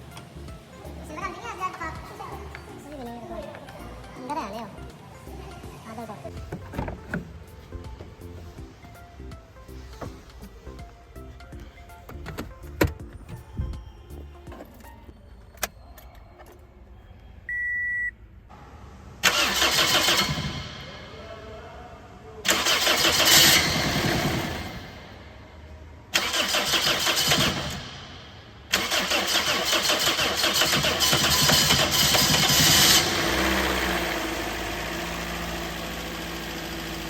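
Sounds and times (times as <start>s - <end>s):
car engine starting and running: 0.0s - 13.7s, 18.5s - 21.4s, 22.4s - 25.3s, 26.0s - 37.0s.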